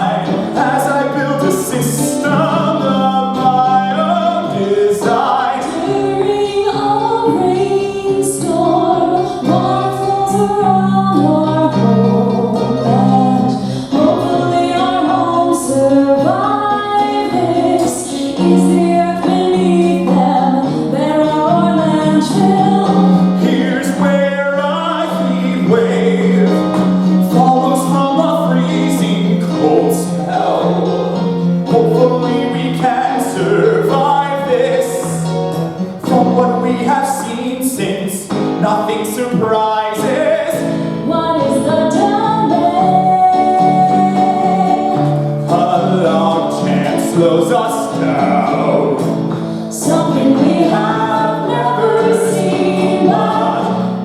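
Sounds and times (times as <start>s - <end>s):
instrumental accompaniment: 0.0s - 54.0s
voices singing: 0.0s - 54.0s.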